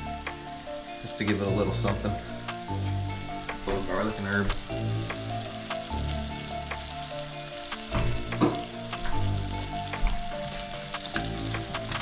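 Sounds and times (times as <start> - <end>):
background music: 0.0 - 12.0
onions sizzling in a frying pan: 0.0 - 12.0.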